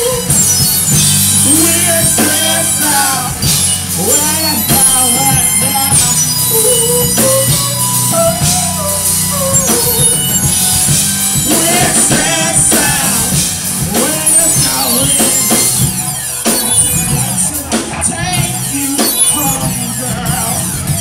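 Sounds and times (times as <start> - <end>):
person singing: 0.0 - 10.7, 11.3 - 21.0
drum kit: 0.0 - 21.0
guitar: 0.0 - 21.0.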